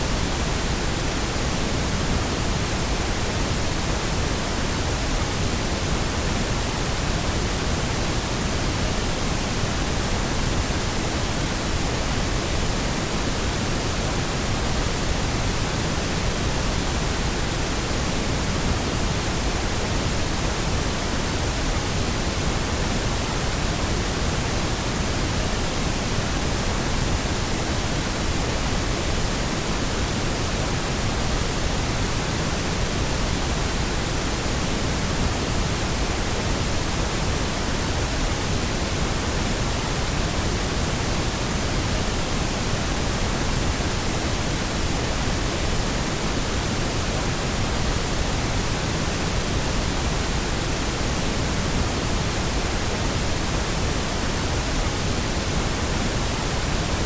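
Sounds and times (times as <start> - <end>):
steady pink noise hiss: 0.0 - 57.0.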